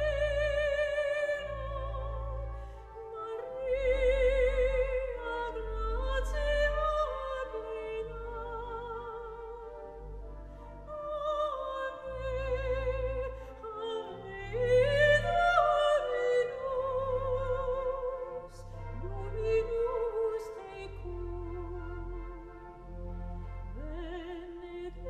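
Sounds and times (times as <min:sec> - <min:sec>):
orchestral accompaniment: 0:00.0 - 0:25.0
operatic singing with vibrato: 0:03.1 - 0:10.2, 0:10.8 - 0:25.0.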